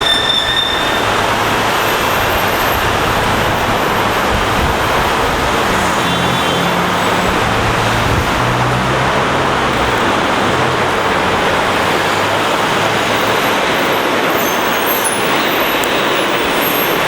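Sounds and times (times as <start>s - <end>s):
road and tyre noise: 0.0s - 17.0s
diesel bus engine humming: 0.7s - 17.0s.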